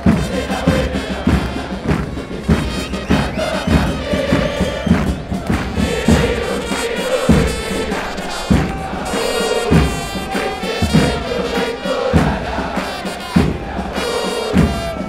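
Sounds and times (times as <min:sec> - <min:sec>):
bass drums beating: 0:00.0 - 0:15.0
crowd singing a chant: 0:00.0 - 0:15.0.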